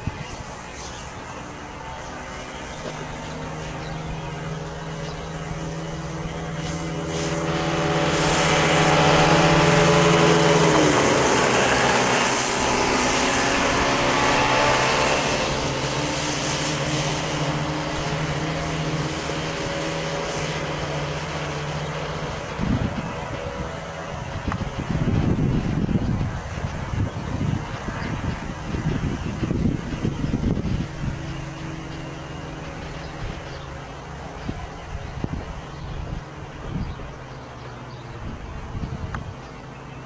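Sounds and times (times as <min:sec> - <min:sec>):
kart engines buzzing past: 0:00.0 - 0:40.0.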